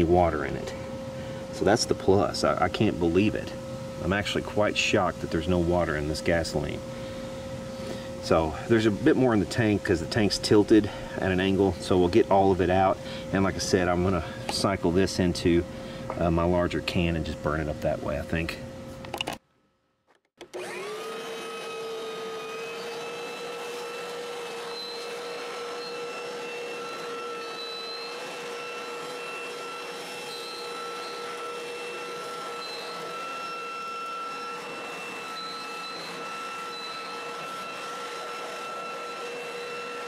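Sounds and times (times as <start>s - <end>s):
leaf blower running: 0.0s - 18.6s, 20.4s - 40.0s.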